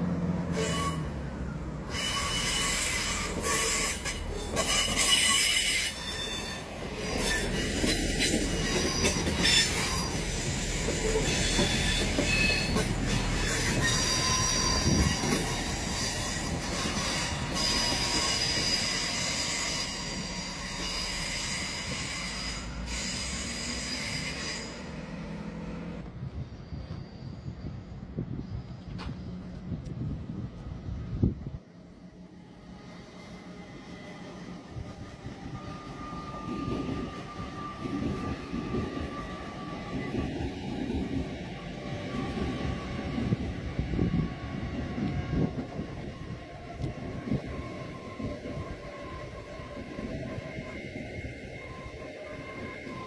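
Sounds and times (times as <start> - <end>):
train rumbling on rails: 0.0 - 53.0
train wheels squealing: 0.4 - 31.1, 32.2 - 53.0.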